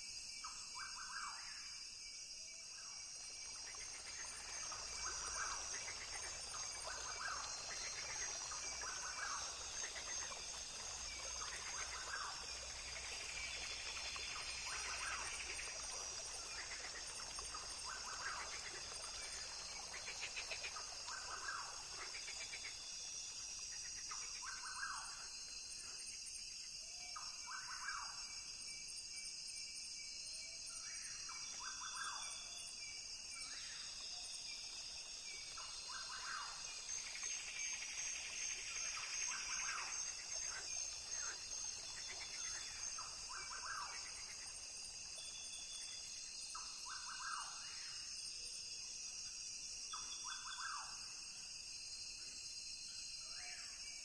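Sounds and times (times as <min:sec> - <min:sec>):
insects buzzing and trilling: 0:00.0 - 0:54.0.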